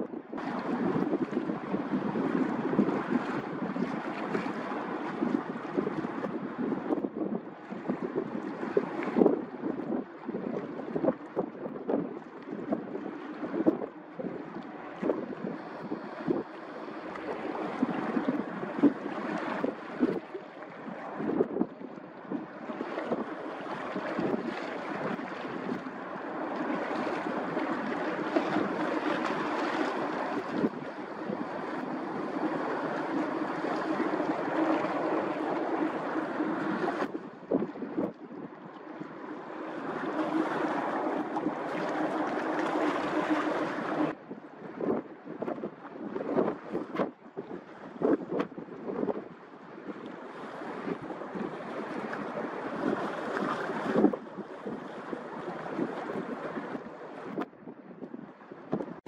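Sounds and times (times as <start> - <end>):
wind gusting on microphone: 0.0 - 25.9, 26.7 - 39.2, 39.8 - 49.4, 50.6 - 59.0
boat machinery hum: 0.0 - 59.0
rush of sea and wake water: 0.0 - 59.0.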